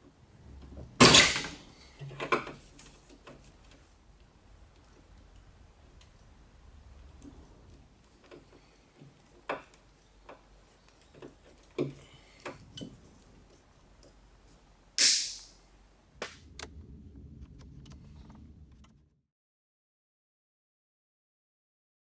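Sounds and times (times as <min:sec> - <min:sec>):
faint low hum: 0:00.0 - 0:19.2.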